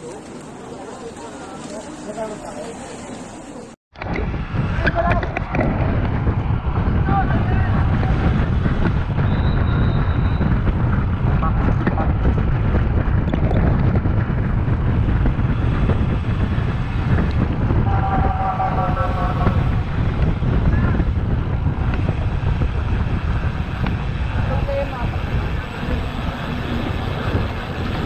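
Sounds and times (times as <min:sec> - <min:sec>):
wind rushing over microphone: 0:04.0 - 0:28.0.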